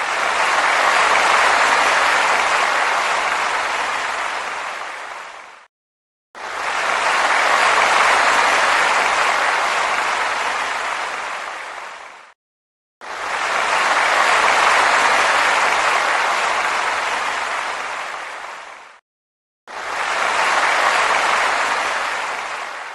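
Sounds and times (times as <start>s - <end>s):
crowd applauding: 0.0s - 5.7s, 6.4s - 12.4s, 13.0s - 19.0s, 19.7s - 22.9s.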